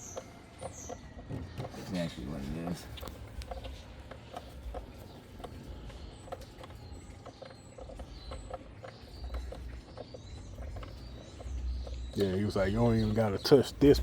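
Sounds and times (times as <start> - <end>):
faint bird chirps: 0.0 - 14.0
hand tools clicking and tapping: 0.0 - 14.0.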